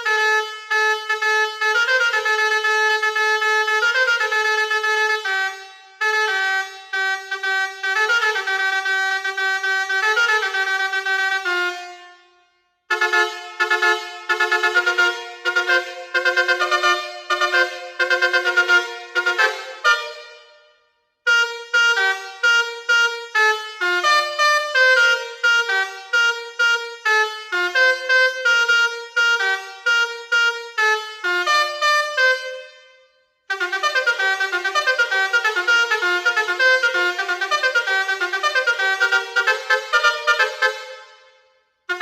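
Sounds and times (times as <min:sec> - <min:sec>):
multi-tone horn melody: 0:00.0 - 0:42.0.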